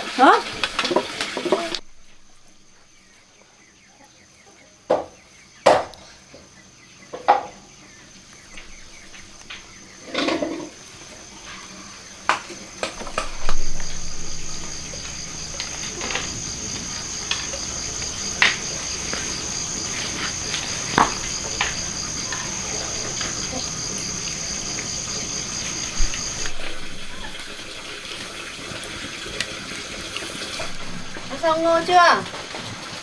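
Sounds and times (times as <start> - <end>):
high-pitched insect trill: 0.2 - 32.9.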